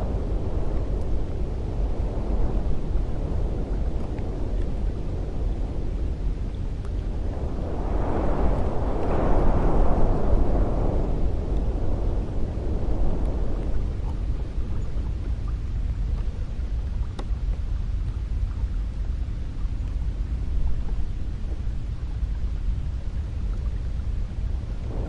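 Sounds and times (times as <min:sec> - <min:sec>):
cold wind blowing: 0:00.0 - 0:25.0.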